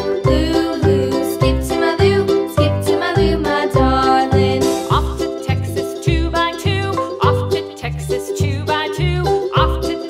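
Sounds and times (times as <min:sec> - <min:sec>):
cheerful children's music: 0:00.0 - 0:10.0.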